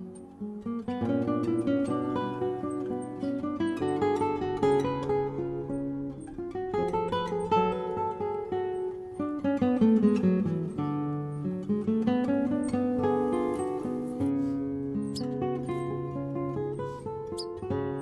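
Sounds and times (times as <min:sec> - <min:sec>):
acoustic guitar plucked melody: 0:00.0 - 0:18.0.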